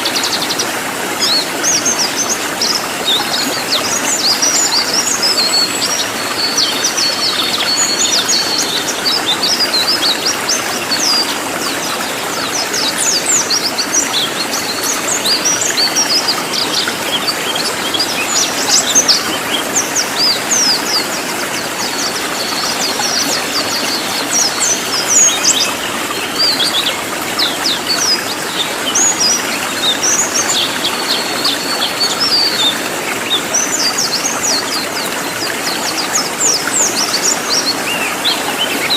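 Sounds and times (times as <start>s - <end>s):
songbird singing rapid chirps: 0.0s - 38.9s.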